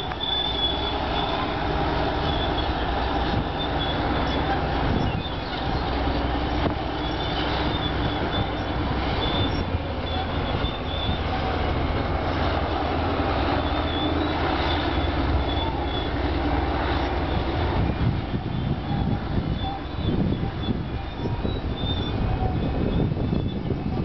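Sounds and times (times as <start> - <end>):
high metallic squeals: 0.0 - 17.5, 18.3 - 23.7
heavy diesel engines under load: 0.0 - 24.0.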